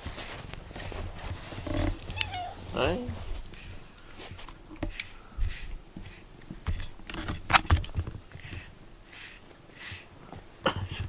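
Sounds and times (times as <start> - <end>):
brush swishing through fur: 0.0 - 7.0, 8.2 - 11.0.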